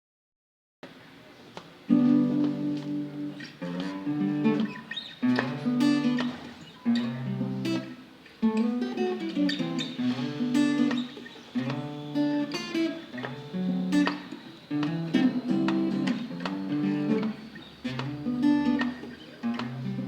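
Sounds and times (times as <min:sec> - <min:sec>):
acoustic guitar playing: 0:01.8 - 0:20.0.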